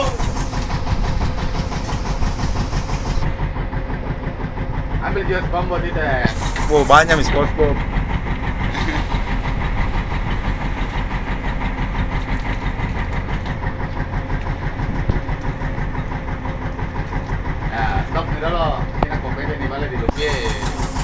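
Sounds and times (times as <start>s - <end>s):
boat engine chugging: 0.0s - 21.0s.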